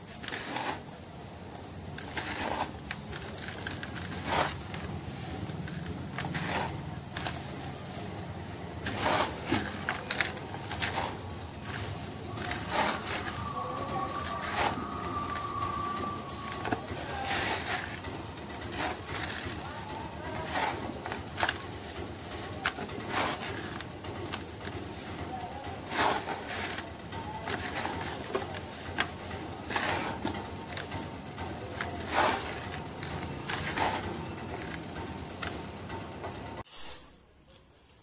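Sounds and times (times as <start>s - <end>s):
fingers scraping sand in bowl: 0.0s - 35.8s, 36.6s - 37.2s.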